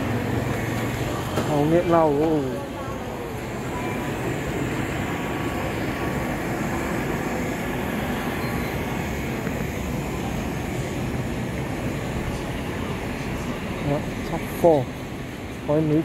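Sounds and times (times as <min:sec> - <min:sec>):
low rumbling street noise: 0:00.0 - 0:16.0.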